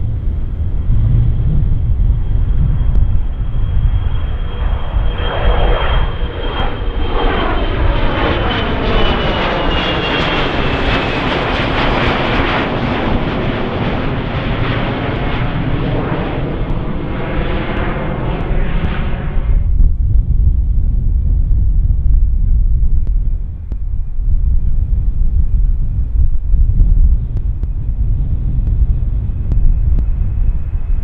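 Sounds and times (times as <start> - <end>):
jet airliner passing by: 0.0 - 31.0
wind rumble on microphone: 0.0 - 31.0.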